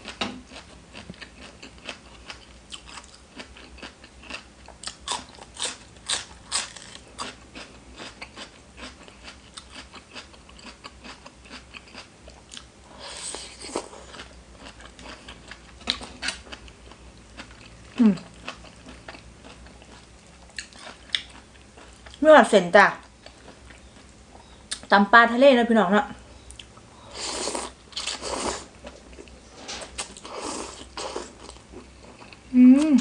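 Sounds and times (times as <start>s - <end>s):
person chewing and crunching: 0.0s - 22.2s, 26.6s - 33.0s.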